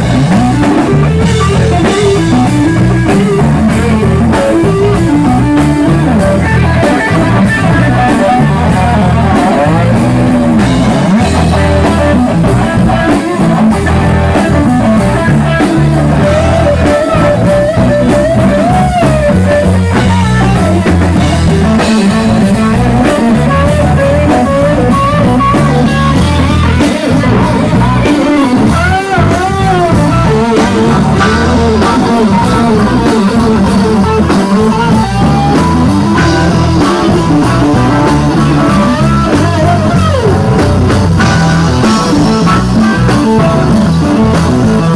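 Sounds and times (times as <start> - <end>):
blues-rock band playing: 0.0 - 44.9
electric guitar solo: 0.0 - 44.9.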